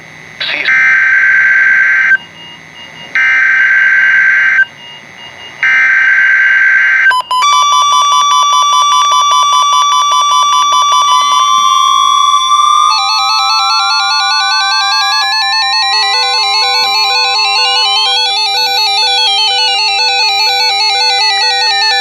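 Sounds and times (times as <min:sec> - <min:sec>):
electronic alert tone beeping: 0:00.4 - 0:01.4, 0:02.1 - 0:22.0
screechy digital data tone: 0:03.2 - 0:21.8.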